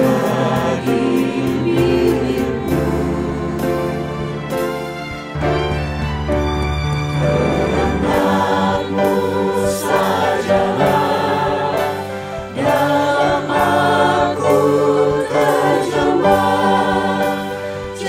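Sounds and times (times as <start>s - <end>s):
church choir singing a hymn: 0.0s - 5.2s, 7.1s - 18.0s
instrumental accompaniment: 0.0s - 18.0s.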